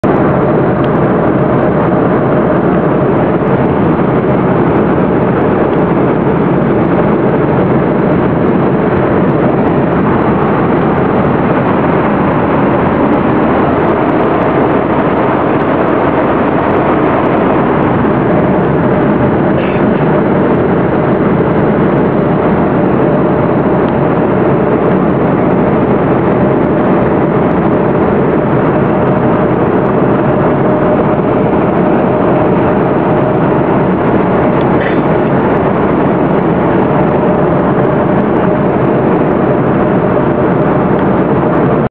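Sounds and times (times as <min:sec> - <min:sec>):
airliner cabin engine drone: 0:00.0 - 0:41.9.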